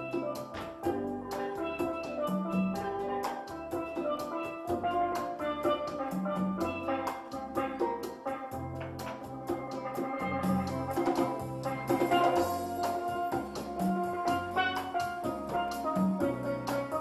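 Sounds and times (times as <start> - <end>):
low bass line: 0.0 - 7.7, 8.5 - 17.0
steel drum melody: 0.0 - 17.0.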